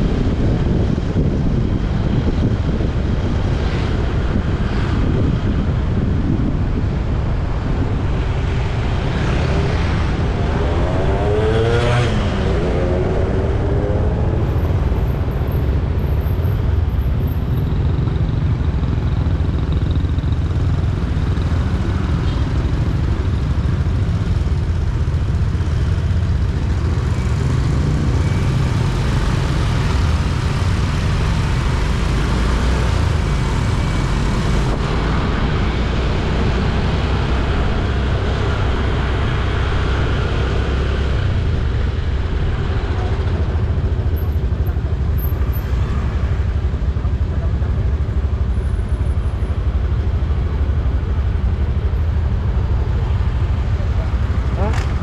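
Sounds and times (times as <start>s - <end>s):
highway traffic rumble: 0.0s - 55.0s.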